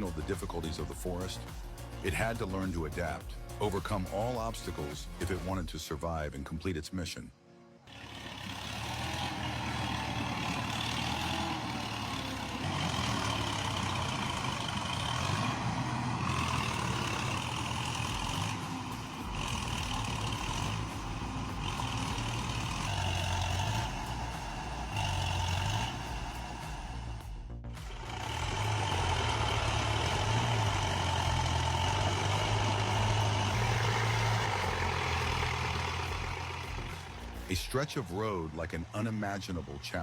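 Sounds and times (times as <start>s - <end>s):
tractor engine running under load: 0.0s - 5.5s, 7.9s - 40.0s.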